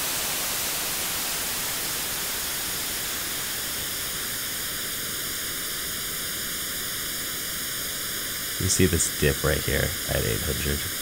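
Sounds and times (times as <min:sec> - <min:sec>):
comb-filtered white noise: 0:00.0 - 0:11.0.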